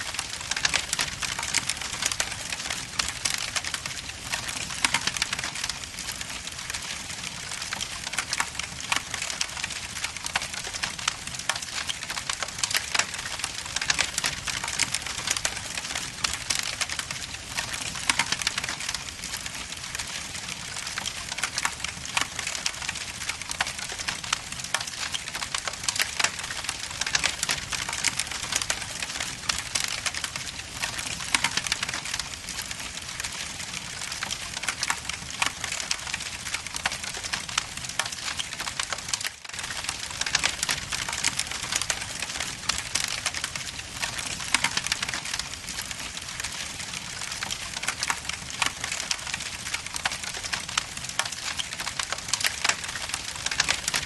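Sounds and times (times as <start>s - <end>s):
logs crackling in fireplace: 0.0s - 54.0s.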